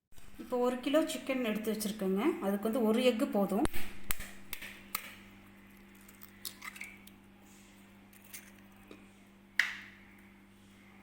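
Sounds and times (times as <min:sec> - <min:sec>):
faint steady hum: 0:00.1 - 0:11.0.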